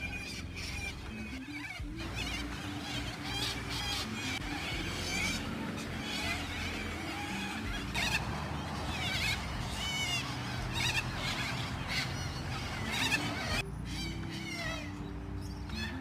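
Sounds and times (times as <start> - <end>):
flock of birds screeching: 0.0 - 16.0.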